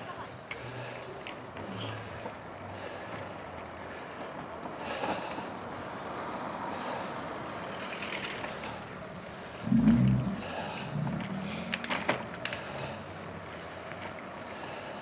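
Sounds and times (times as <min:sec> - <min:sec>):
vehicles passing: 0:00.0 - 0:15.0
wind and road noise: 0:00.0 - 0:15.0.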